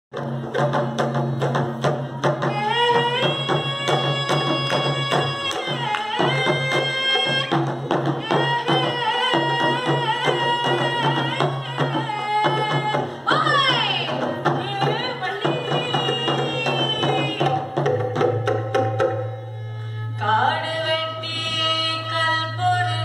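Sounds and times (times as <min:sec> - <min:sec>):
drum beating quick rhythm: 0:00.1 - 0:19.3.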